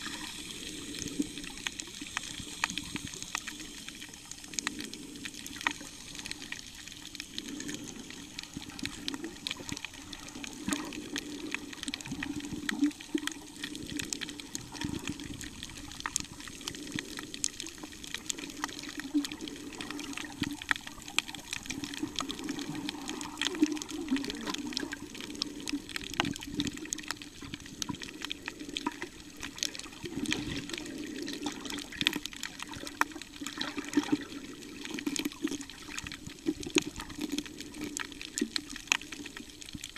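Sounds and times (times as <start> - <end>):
crackle of small clicks: 0.0 - 39.9.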